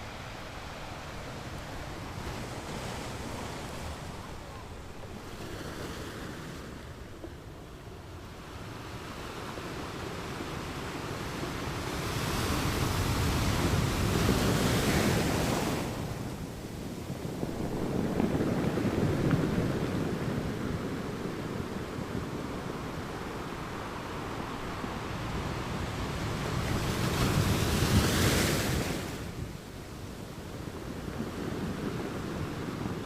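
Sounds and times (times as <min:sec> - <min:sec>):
ocean waves breaking: 0:00.0 - 0:29.6.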